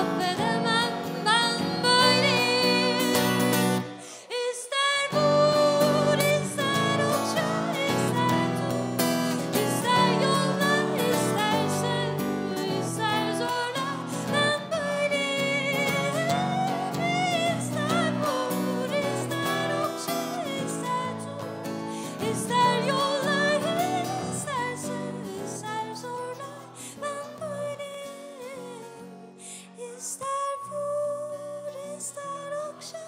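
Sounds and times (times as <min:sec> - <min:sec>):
acoustic guitar: 0:00.0 - 0:33.0
woman singing: 0:00.0 - 0:33.0.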